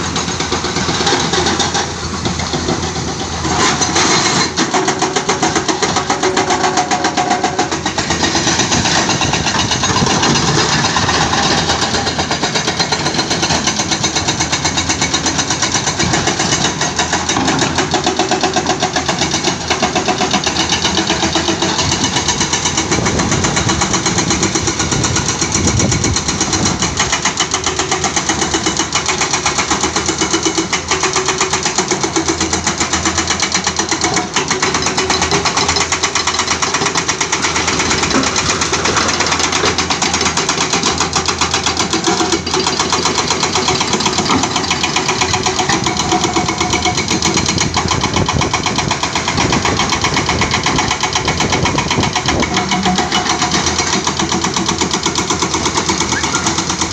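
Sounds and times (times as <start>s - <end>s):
excavator diesel engine under load: 0.0s - 56.9s.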